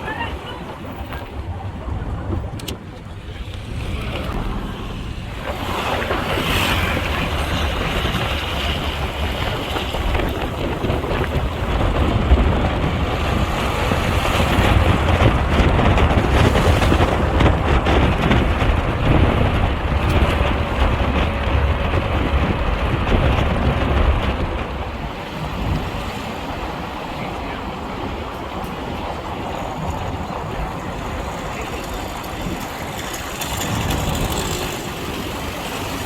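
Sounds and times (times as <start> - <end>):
vehicle rumble: 0.0 - 36.0
wind buffeting microphone: 0.0 - 36.0.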